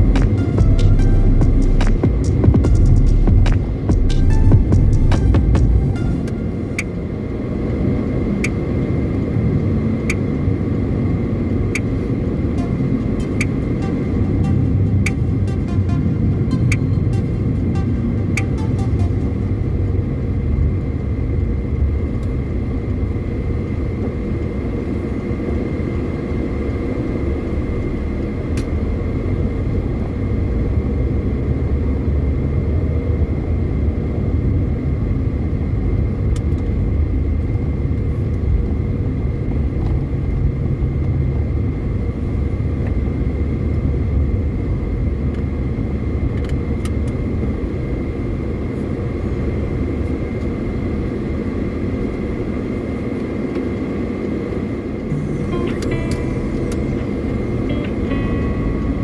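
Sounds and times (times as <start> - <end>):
engine and road rumble: 0.0 - 59.0
faint whine: 0.0 - 59.0.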